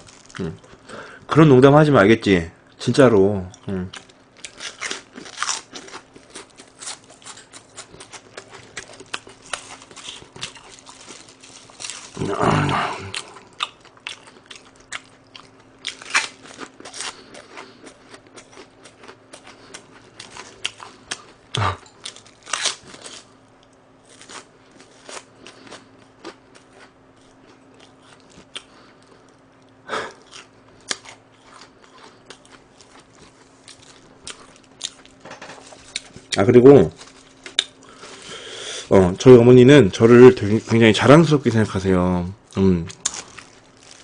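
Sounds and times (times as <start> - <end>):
crunchy chewing: 3.5 - 38.4, 42.5 - 44.0.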